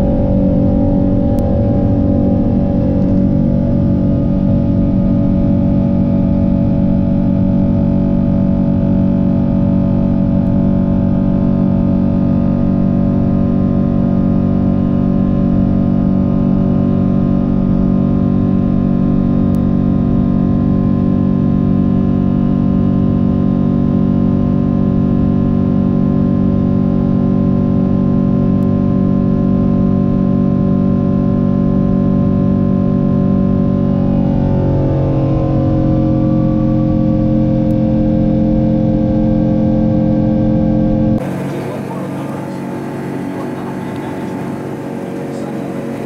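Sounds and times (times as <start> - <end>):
jet engine drone in cabin: 0.0 - 46.0.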